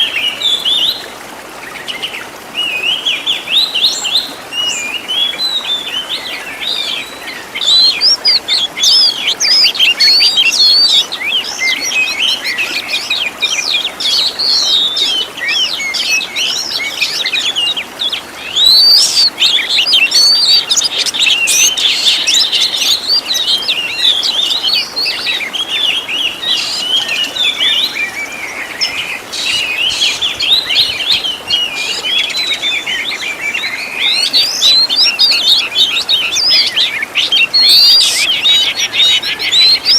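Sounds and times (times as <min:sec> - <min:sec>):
songbird singing varied chirps: 0:02.6 - 0:39.9.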